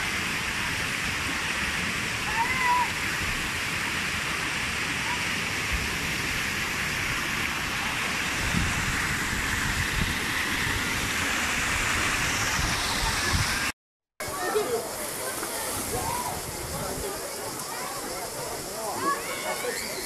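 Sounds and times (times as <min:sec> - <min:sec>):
water rushing from water feature: 0:00.0 - 0:20.0.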